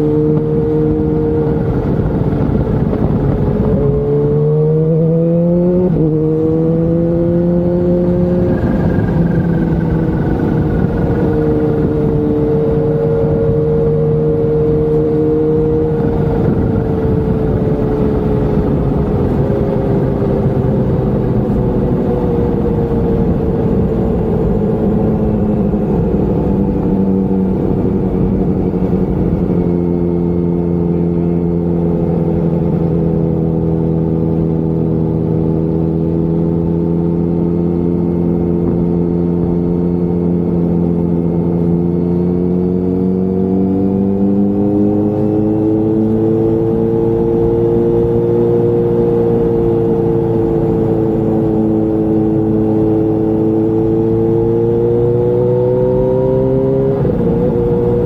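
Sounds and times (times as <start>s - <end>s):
low wind rumble: 0.0s - 58.0s
motorcycle engine running: 0.0s - 58.0s.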